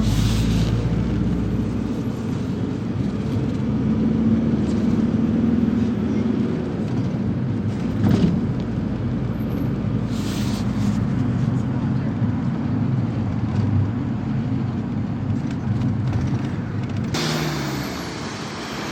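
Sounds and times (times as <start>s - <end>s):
engine and road rumble: 0.0s - 18.9s.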